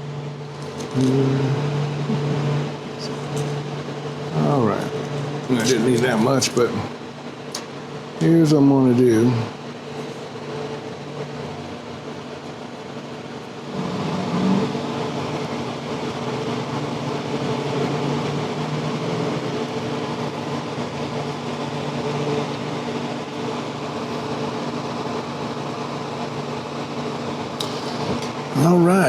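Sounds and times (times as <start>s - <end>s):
motor hum with rushing noise: 0.0s - 29.0s.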